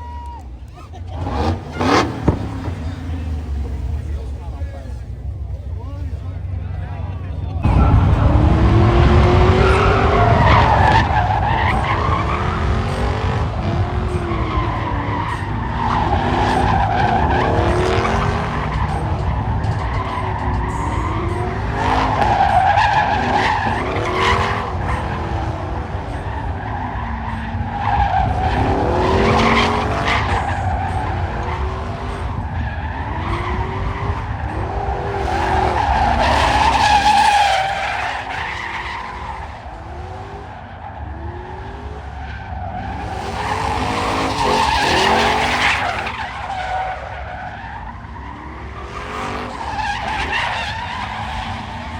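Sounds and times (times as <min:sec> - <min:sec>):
car engine revving: 0:00.0 - 0:51.9
tyres squealing and skidding: 0:00.0 - 0:51.9.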